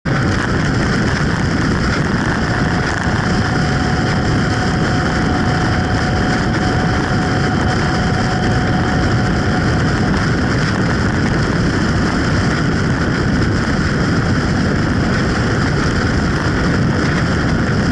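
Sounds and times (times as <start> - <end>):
motorcycle engine and tyre noise: 0.0 - 17.9
wind rushing: 0.0 - 17.9
faint steady whine: 0.1 - 17.9.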